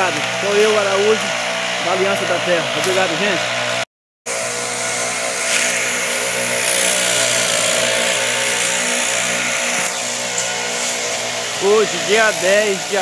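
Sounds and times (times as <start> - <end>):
small two-stroke engine running: 0.0 - 13.0.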